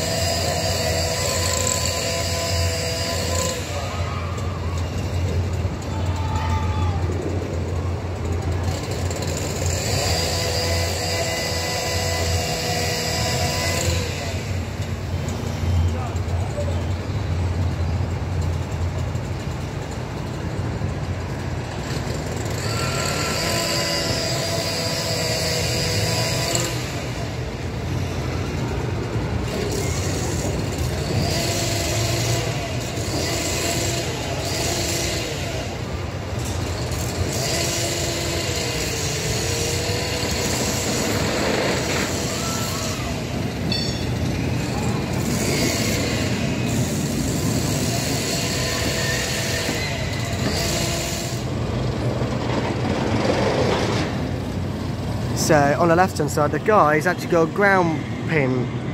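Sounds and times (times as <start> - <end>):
construction machinery engine rumble: 0.0 - 58.9
high machinery whine: 0.0 - 58.9.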